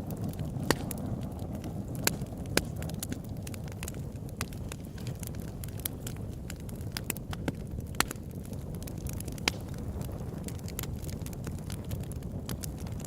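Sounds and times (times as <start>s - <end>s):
campfire burning: 0.0s - 13.0s
fire crackling and popping: 0.0s - 13.0s.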